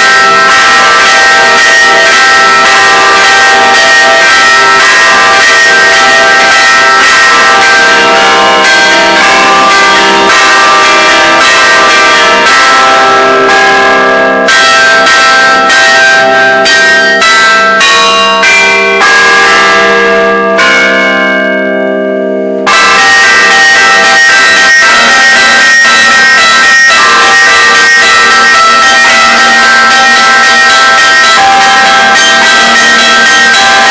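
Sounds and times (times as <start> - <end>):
church bells ringing: 0.0 - 33.9.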